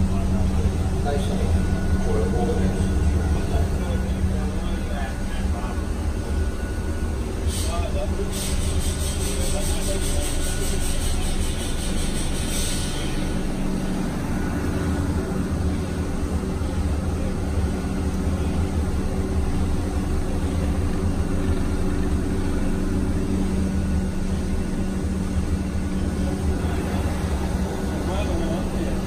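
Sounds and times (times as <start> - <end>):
locomotive machinery hum: 0.0 - 29.0.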